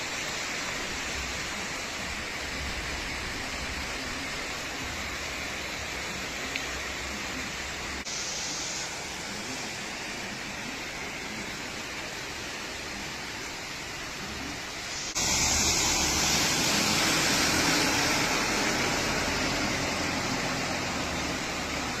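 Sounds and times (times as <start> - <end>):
heavy rain: 0.0 - 22.0
running floodwater: 0.0 - 22.0.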